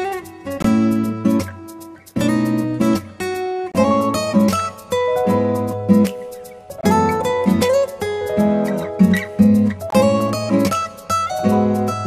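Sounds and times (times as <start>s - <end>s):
plucked guitar-like music: 0.0s - 12.0s.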